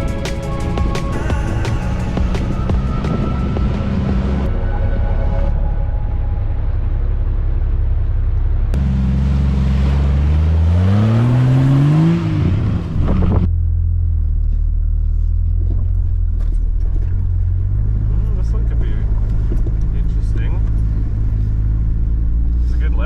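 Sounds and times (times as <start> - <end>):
car engine rumbling and revving: 0.0 - 23.0.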